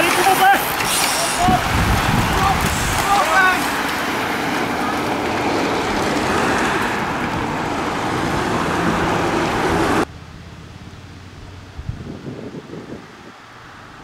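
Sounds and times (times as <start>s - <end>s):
whir of bicycle tyres and drivetrains: 0.0s - 14.0s.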